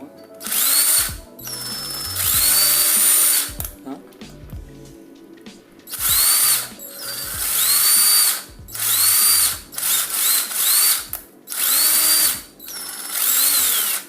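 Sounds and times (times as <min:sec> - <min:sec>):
cordless impact driver whirring: 0:00.4 - 0:03.7, 0:05.9 - 0:14.0.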